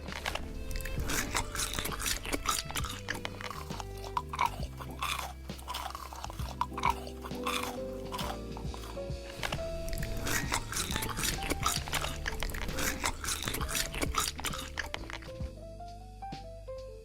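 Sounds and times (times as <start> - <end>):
crunchy chewing: 0.0 - 15.4
background music: 0.0 - 17.0.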